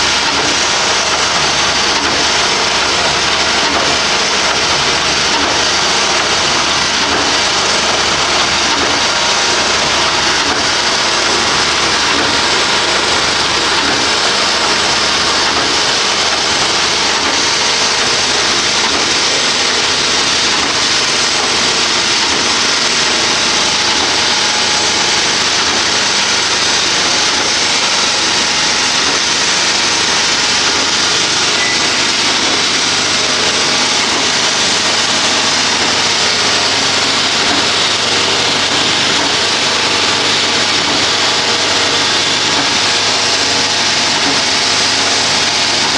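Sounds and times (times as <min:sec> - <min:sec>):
concrete mixer running: 0:00.0 - 0:45.9.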